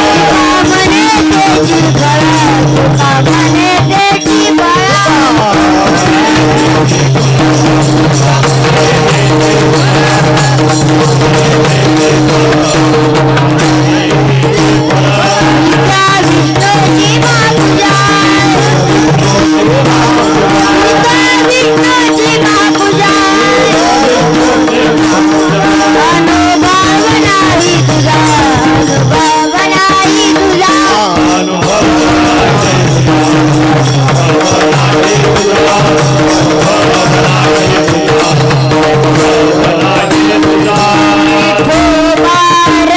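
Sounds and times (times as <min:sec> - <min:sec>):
drumming: 0:00.0 - 0:42.9
jingling hand cymbals: 0:00.0 - 0:42.9.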